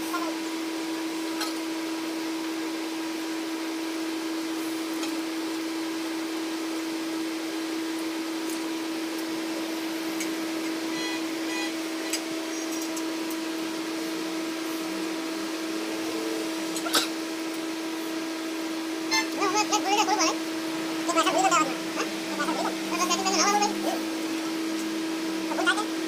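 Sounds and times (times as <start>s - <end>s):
electric machine hum: 0.0s - 26.0s.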